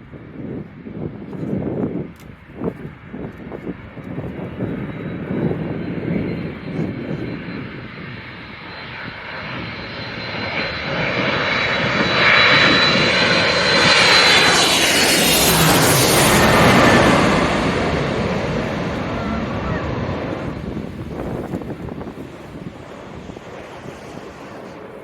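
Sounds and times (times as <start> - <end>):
airliner engine noise: 0.0 - 25.0.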